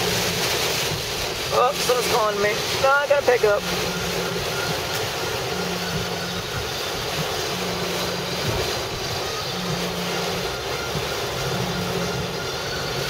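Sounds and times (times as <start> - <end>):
heavy rain on a car: 0.0 - 13.0
road noise inside a car: 0.0 - 13.0.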